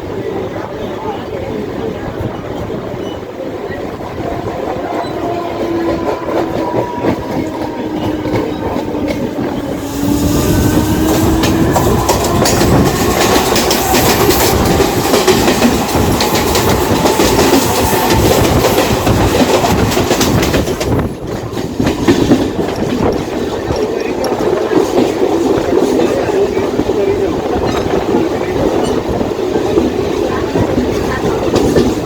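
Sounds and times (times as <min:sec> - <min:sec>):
train hum: 0:00.0 - 0:32.0
train wheels clicking over rail joints: 0:05.0 - 0:32.0.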